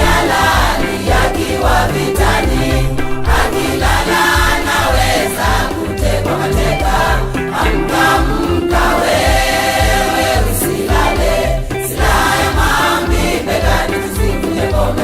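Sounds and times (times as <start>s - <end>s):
choir singing gospel song: 0.0s - 15.0s
steady bass beat: 0.0s - 15.0s.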